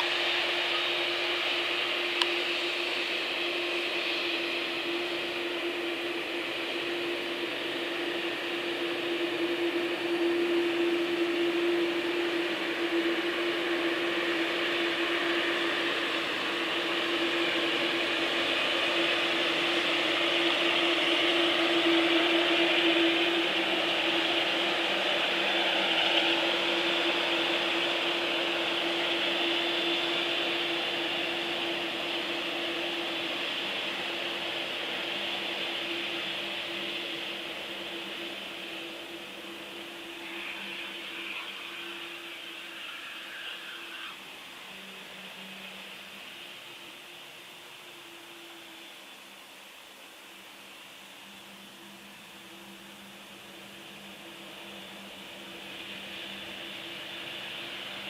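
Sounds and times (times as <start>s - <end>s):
jet engines whining: 0.0s - 49.6s, 50.2s - 58.0s.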